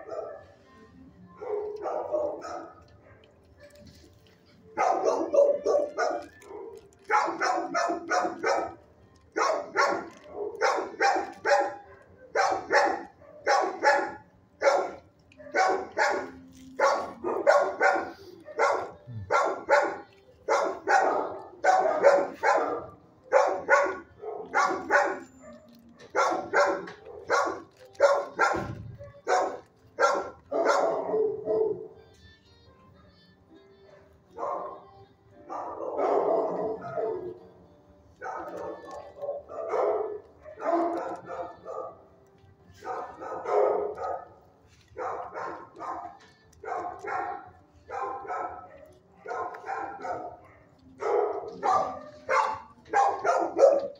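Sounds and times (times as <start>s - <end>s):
dogs barking: 0.0s - 0.6s, 1.3s - 32.0s, 33.8s - 53.9s.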